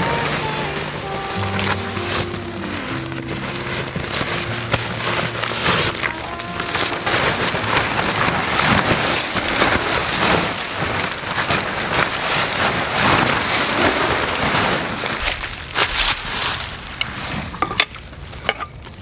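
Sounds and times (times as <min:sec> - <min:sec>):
heavy rain falling: 0:00.0 - 0:17.5.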